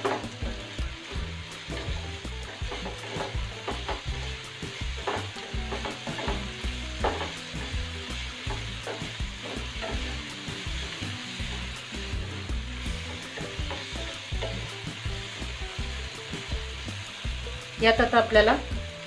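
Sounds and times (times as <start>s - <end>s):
wooden spatula scraping a pan: 0.0s - 15.5s
vegetables sizzling in a frying pan: 0.0s - 19.0s.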